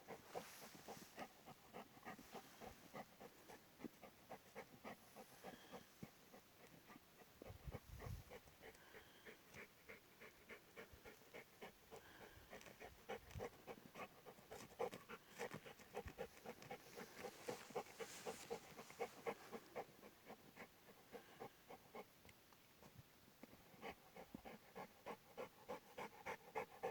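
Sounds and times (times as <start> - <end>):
dog panting: 0.0 - 22.2, 22.8 - 26.9.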